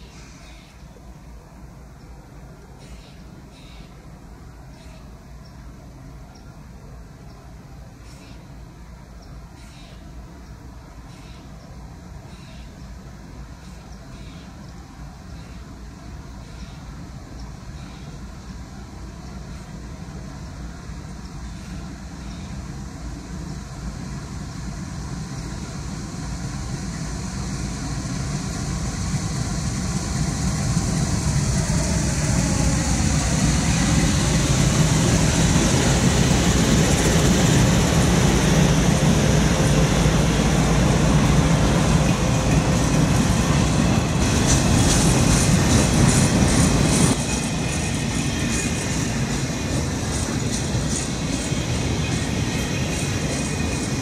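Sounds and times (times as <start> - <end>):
diesel locomotive engine drone: 0.0 - 54.0
rail cars rolling by: 0.0 - 54.0.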